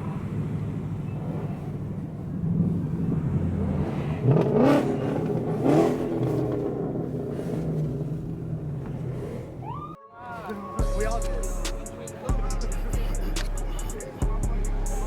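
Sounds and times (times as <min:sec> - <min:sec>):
car engine revving: 0:00.0 - 0:10.0, 0:10.8 - 0:15.0.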